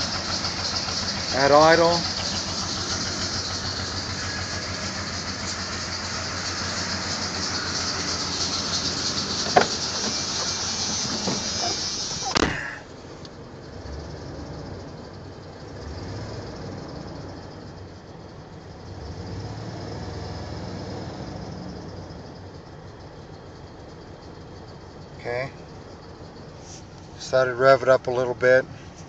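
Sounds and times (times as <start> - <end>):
truck engine idling: 0.0 - 19.0, 19.9 - 29.0.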